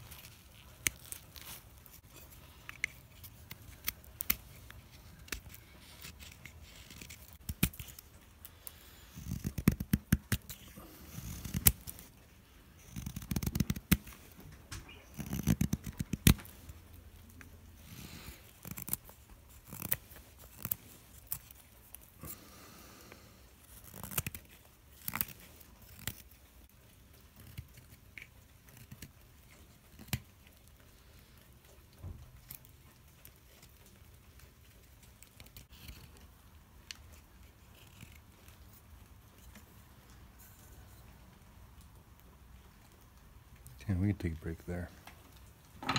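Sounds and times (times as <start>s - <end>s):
knife carving wood: 0.0s - 31.8s, 32.4s - 41.0s.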